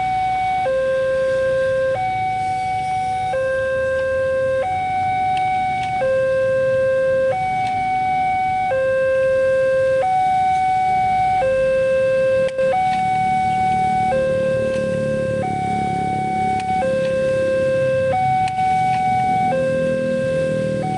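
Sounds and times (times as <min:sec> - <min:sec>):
two-tone level crossing alarm: 0:00.0 - 0:20.9.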